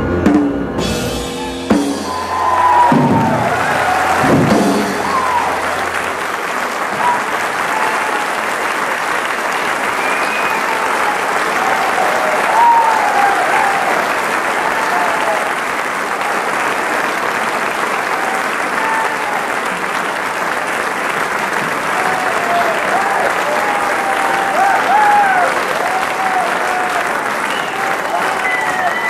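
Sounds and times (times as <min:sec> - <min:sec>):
audience shouts: 0:01.1 - 0:17.0, 0:17.7 - 0:19.9, 0:21.6 - 0:29.0
audience applauding: 0:01.5 - 0:29.0.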